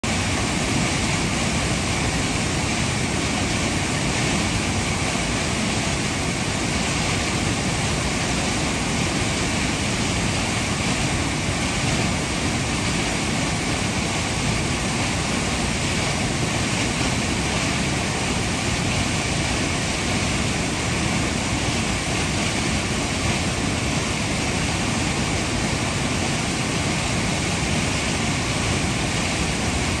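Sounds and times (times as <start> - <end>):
waterfall rushing into gorge: 0.0 - 30.0.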